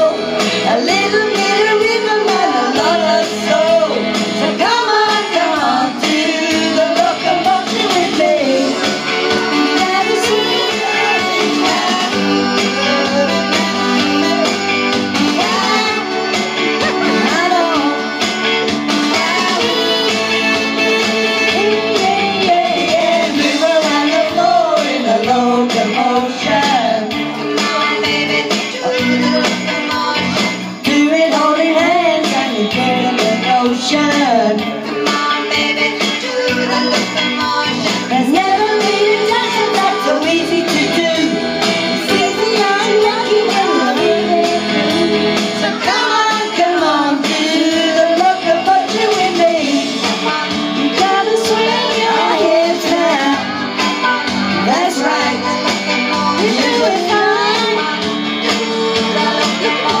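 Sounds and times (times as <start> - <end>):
recorded backing track: 0.0 - 60.0
women singing karaoke: 0.0 - 60.0.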